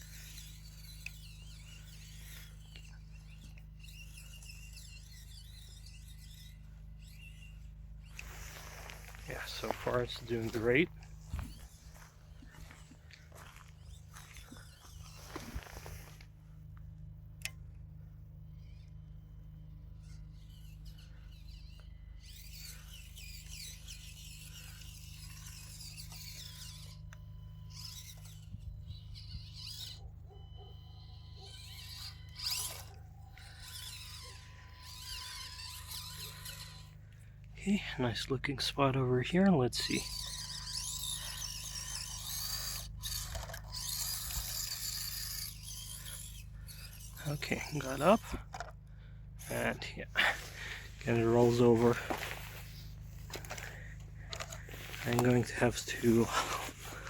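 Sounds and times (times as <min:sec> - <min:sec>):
small electric motor whining: 0:00.0 - 0:57.0.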